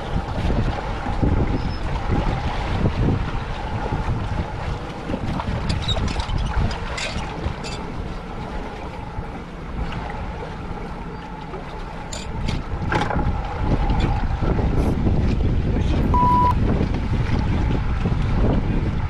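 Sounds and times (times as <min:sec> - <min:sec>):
wind buffeting microphone: 0:00.0 - 0:10.5, 0:12.3 - 0:19.0.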